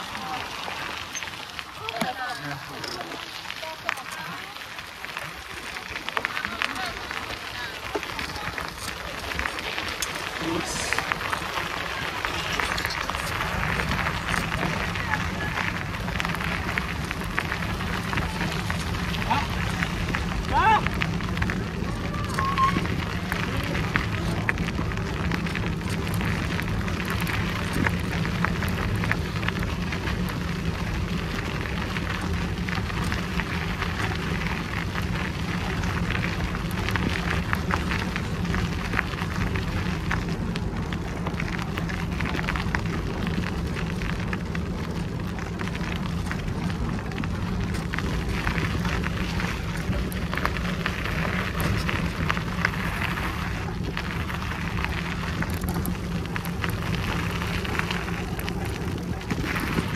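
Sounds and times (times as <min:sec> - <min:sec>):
bicycle tyres on gravel: 0:00.0 - 0:59.9.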